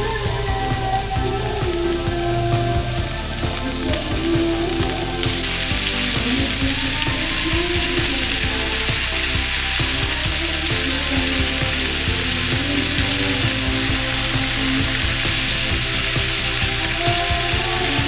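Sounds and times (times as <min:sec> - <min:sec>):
background music melody: 0:00.0 - 0:18.0
chicken sizzling in a pan: 0:00.0 - 0:18.0.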